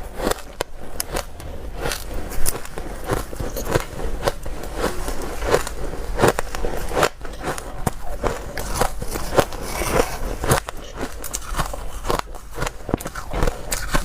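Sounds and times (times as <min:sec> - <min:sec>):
person crunching ice: 0:00.0 - 0:14.0.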